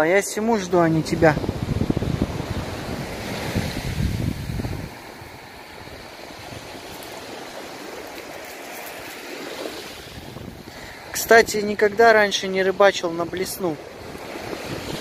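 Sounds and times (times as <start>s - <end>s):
wind buffeting microphone: 0.0s - 12.2s, 12.8s - 15.0s
surf on pebble shore: 0.0s - 15.0s.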